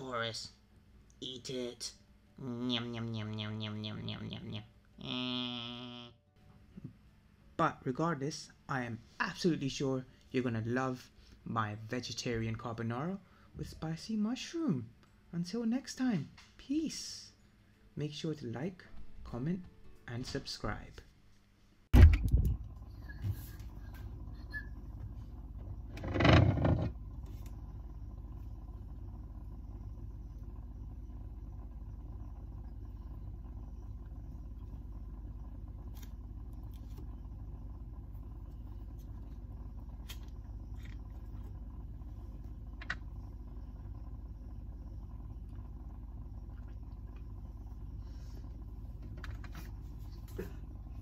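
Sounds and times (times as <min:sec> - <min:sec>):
refrigerator humming: 0:00.0 - 0:20.9, 0:21.9 - 0:51.0.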